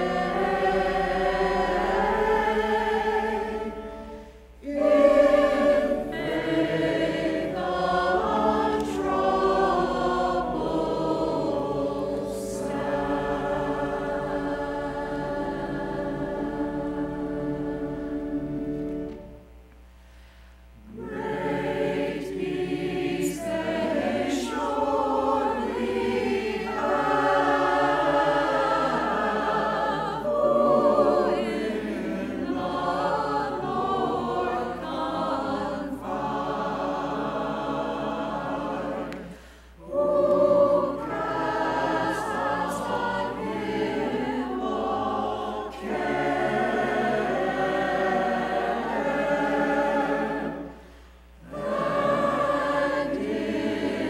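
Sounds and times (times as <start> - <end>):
church choir singing: 0.0 - 19.6, 20.8 - 54.0.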